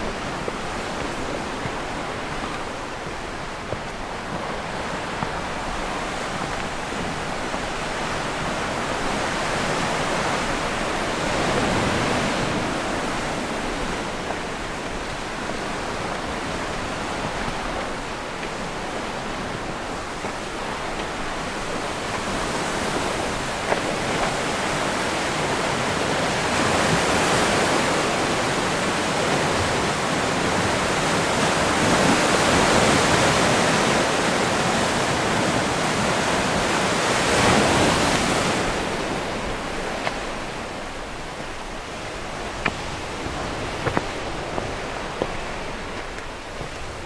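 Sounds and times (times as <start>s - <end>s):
sea surf washing ashore: 0.0s - 47.0s.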